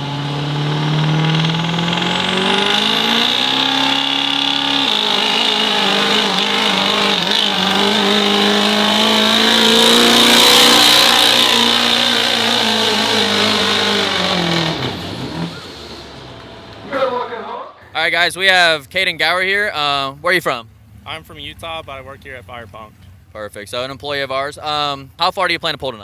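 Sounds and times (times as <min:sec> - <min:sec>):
diesel truck engine revving: 0:00.0 - 0:25.9.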